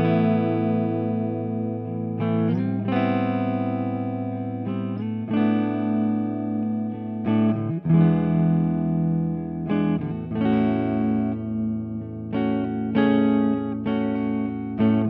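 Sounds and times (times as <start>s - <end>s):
electric guitar chords ringing: 0.0s - 15.0s.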